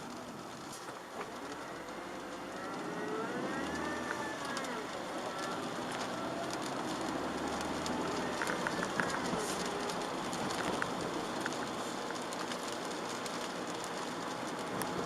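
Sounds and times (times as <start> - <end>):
car engine hum: 0.0 - 15.0
tyre and rain noise: 0.0 - 15.0.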